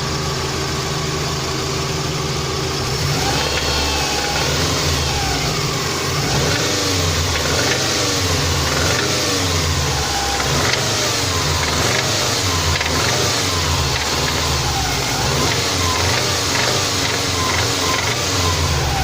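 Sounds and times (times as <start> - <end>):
car engine revving: 2.3 - 19.0
engine knocking: 3.0 - 19.0.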